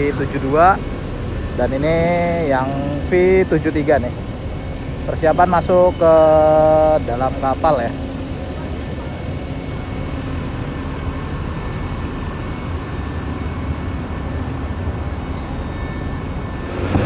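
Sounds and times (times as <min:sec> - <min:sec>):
bus diesel engines idling: 0:00.0 - 0:17.0.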